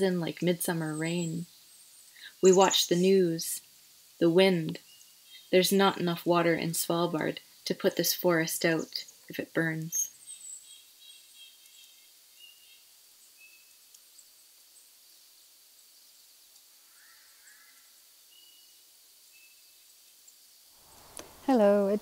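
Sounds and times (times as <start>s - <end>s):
soft forest hiss: 0.0s - 22.0s.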